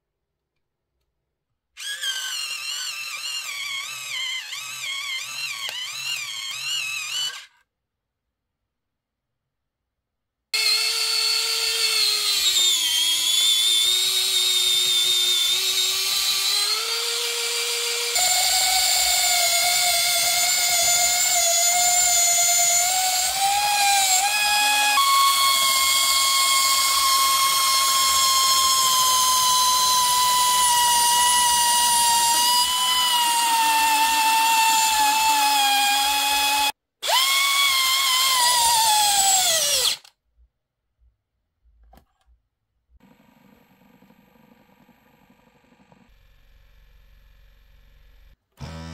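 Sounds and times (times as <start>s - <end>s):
electric pencil sharpener whine: 1.8s - 7.6s, 10.6s - 40.1s, 43.0s - 48.9s.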